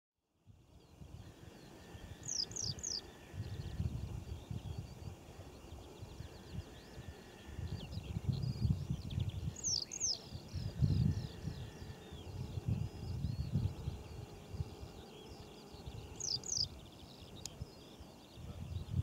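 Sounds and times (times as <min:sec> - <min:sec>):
wind rumble on microphone: 0:00.5 - 0:19.0
birds singing and chirping: 0:00.7 - 0:19.0.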